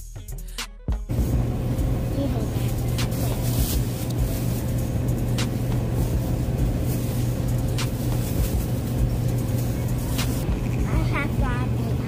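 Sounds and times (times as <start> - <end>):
supermarket background hum: 1.1 - 12.0.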